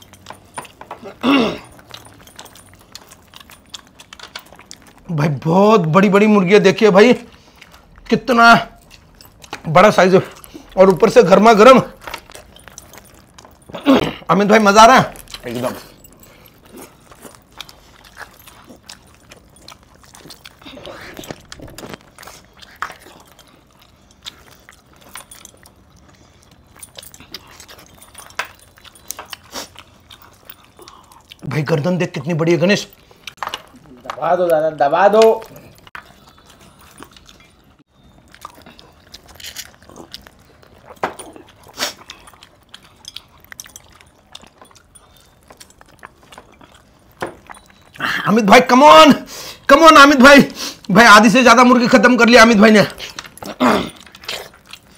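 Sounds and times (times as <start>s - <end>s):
wet chewing: 0.0s - 54.9s.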